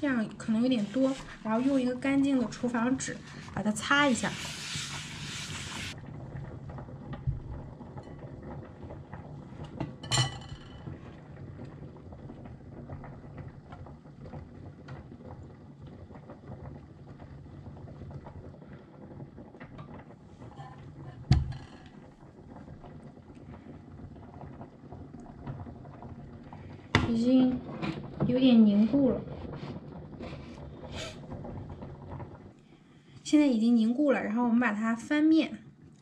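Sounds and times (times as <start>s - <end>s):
pancake batter cooking in pan: 0.0s - 36.0s.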